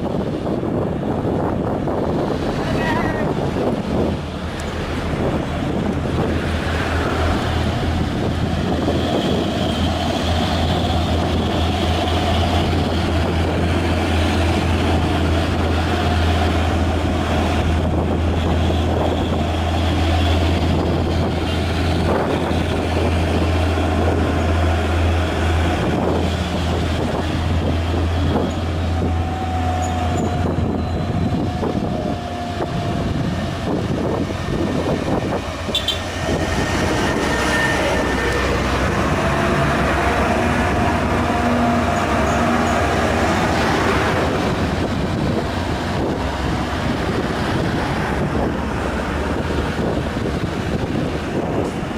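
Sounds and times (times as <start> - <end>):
truck diesel engine pulling hard: 0.0 - 51.9.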